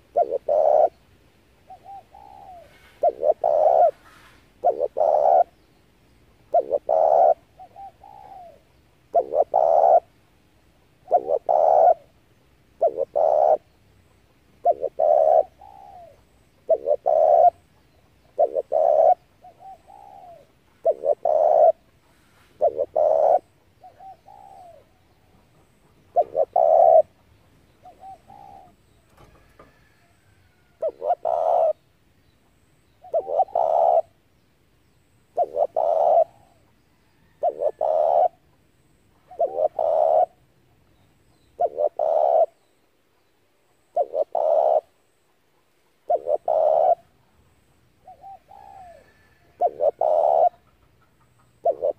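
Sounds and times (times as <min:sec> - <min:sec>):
dove cooing: 0:00.0 - 0:05.7, 0:06.5 - 0:10.2, 0:11.0 - 0:12.2, 0:12.8 - 0:13.8, 0:14.6 - 0:31.8, 0:33.0 - 0:34.2, 0:35.3 - 0:40.5, 0:41.4 - 0:42.7, 0:43.7 - 0:51.9.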